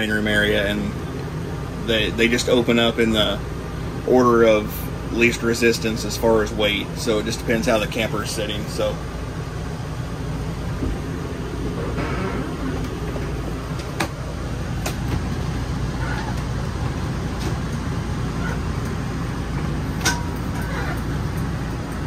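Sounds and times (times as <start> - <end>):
hydraulic pump hum: 0.0 - 22.0.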